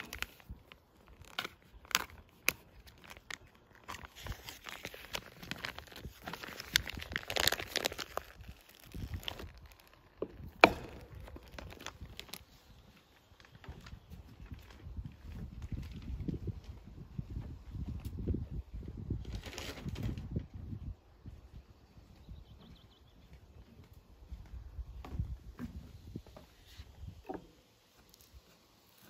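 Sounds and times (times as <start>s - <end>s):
crinkling handling sounds: 0.0s - 18.2s, 19.0s - 20.6s, 25.1s - 29.0s.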